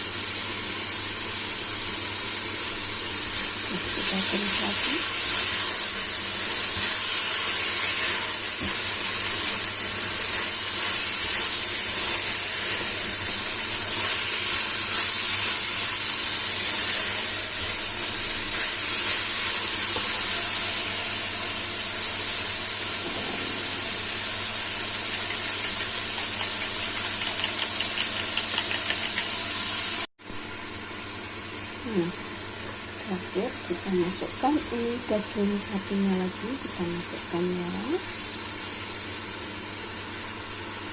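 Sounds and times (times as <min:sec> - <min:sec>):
vegetables sizzling in a pan: 0:00.0 - 0:40.9.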